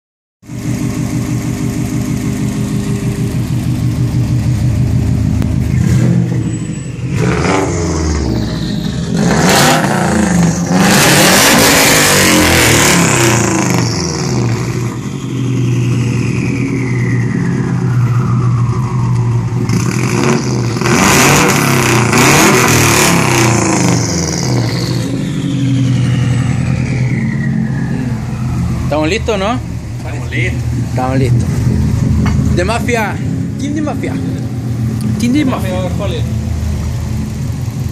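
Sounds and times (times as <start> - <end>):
car engine idling and revving: 0.4 - 37.9.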